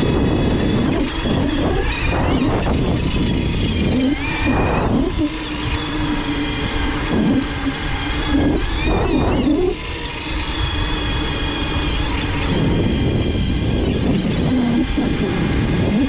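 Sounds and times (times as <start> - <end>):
electric motor whining: 0.0 - 16.0
road rumble: 0.0 - 16.0
wind: 0.0 - 16.0.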